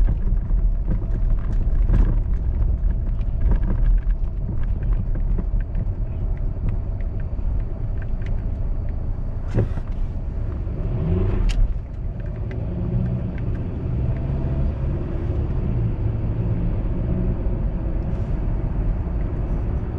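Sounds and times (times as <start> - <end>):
car engine and road noise: 0.0 - 19.9.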